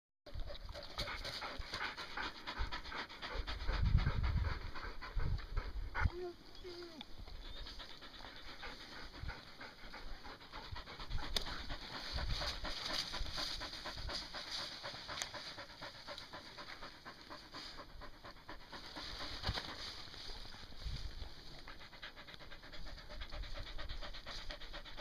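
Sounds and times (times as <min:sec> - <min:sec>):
dog panting: 0:00.3 - 0:25.0.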